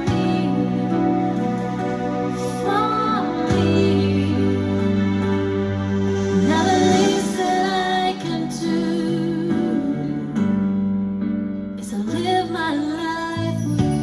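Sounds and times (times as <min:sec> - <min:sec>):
woman singing: 0:00.0 - 0:05.4, 0:06.4 - 0:10.5, 0:11.8 - 0:14.0
sustained instrumental chords: 0:00.0 - 0:11.7.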